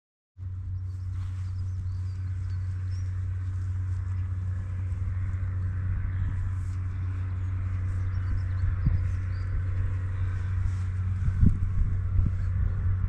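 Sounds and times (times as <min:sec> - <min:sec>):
low outdoor rumble: 0:00.4 - 0:13.0.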